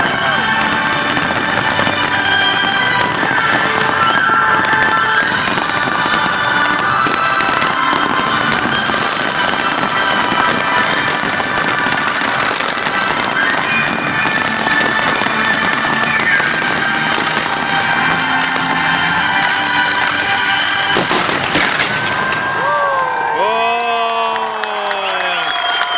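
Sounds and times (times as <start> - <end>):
music with sustained tones: 0.0 - 22.2
fireworks crackling and popping: 0.0 - 23.3.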